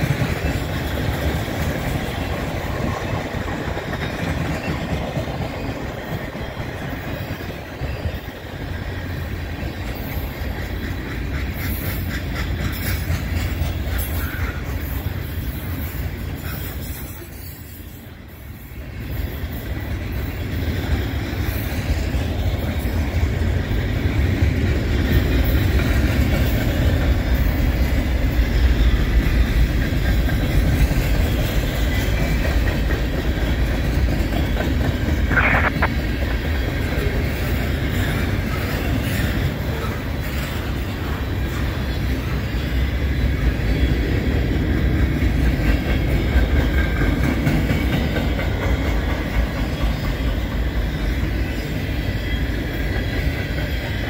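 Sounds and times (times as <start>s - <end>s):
clickety-clack over rail joints: 0.0s - 54.0s
train wheels rumbling on rails: 0.0s - 54.0s.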